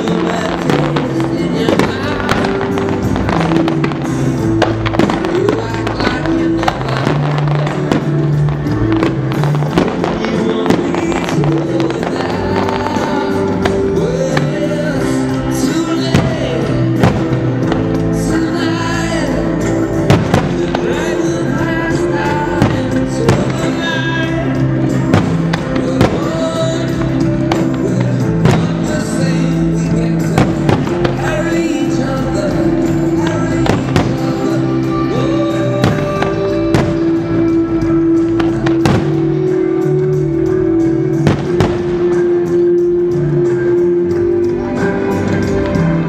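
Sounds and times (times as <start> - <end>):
fireworks bursting bangs and pops: 0.0 - 46.0
music soundtrack: 0.0 - 46.0.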